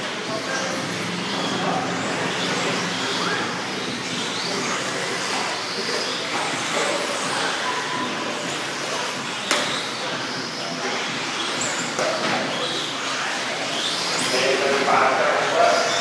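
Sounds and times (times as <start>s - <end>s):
steady dense noise: 0.0s - 16.0s
electric motor whines: 0.2s - 14.3s.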